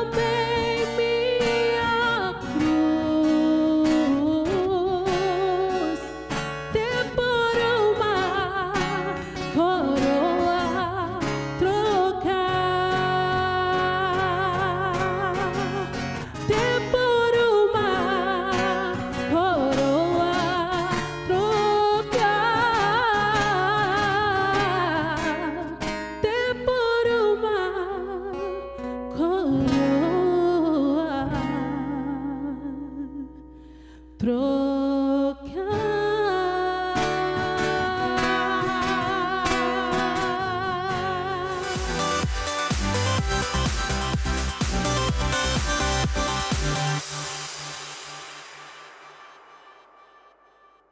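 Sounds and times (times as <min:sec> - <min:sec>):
strummed acoustic guitar: 0:00.0 - 0:32.2, 0:35.7 - 0:48.7
woman singing with vibrato: 0:00.0 - 0:47.0.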